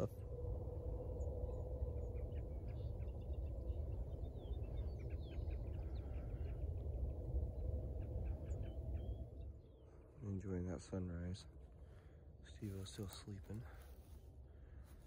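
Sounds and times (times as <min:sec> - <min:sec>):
faint bird chirps: 0:00.0 - 0:15.0
low steady rumble: 0:00.0 - 0:15.0.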